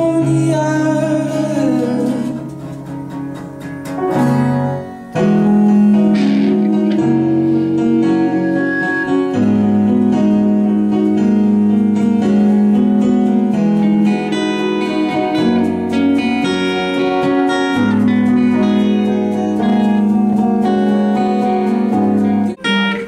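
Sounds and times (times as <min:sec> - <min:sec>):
guitar and keyboard chords: 0:00.0 - 0:23.0
bass line: 0:04.0 - 0:23.0.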